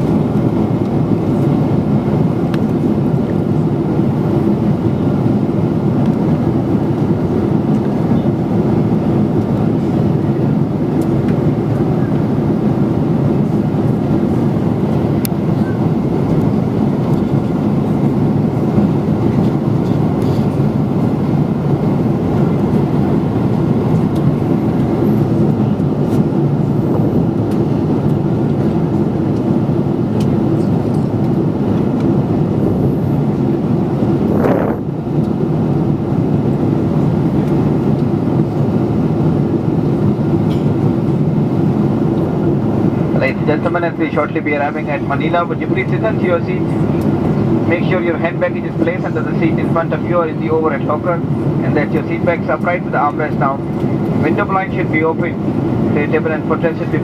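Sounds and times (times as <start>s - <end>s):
airplane cabin airflow rush: 0.0s - 57.0s
jet engines droning: 0.0s - 57.0s.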